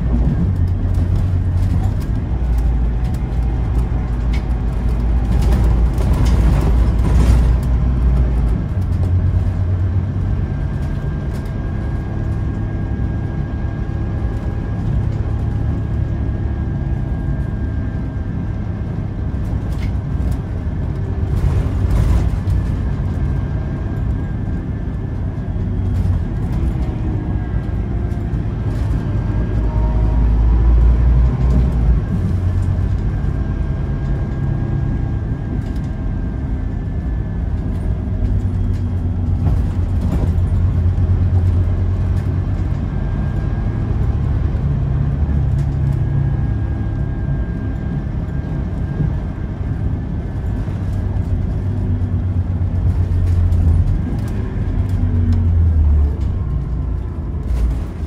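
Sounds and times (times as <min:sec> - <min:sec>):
bus engine drone: 0:00.0 - 0:58.0.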